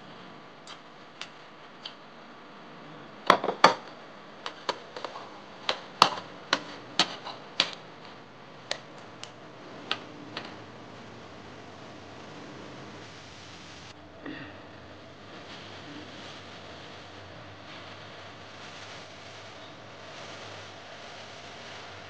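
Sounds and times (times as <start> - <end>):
faint room hiss: 0.0 - 22.0.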